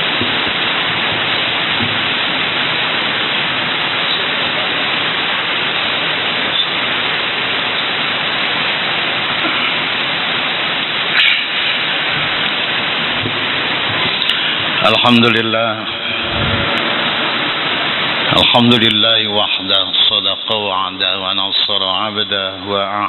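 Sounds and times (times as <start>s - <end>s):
loud steady hiss: 0.0s - 23.0s.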